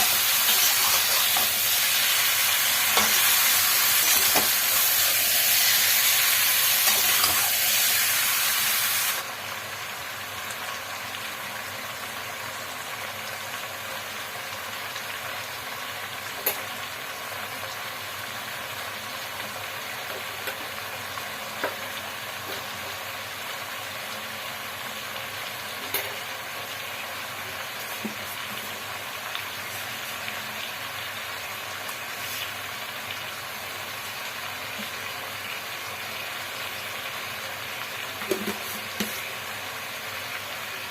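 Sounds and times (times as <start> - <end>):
curry sizzling in a pan: 0.0 - 40.9.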